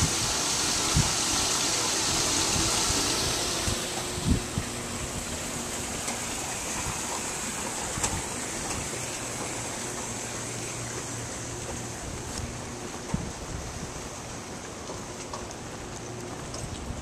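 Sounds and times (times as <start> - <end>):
wind and rain rushing: 0.0 - 17.0.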